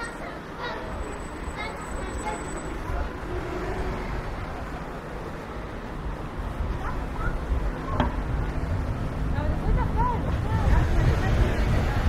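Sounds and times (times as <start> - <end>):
faint voices: 0.0 - 12.0
low rumble of traffic: 0.0 - 12.0.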